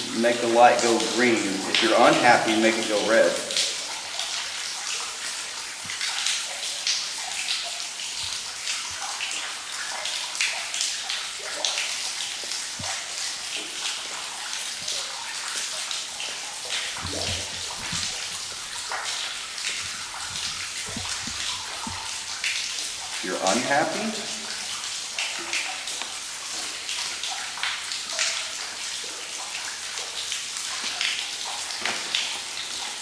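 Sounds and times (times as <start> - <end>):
sharp water drips: 0.0 - 33.0
water trickling: 0.0 - 33.0.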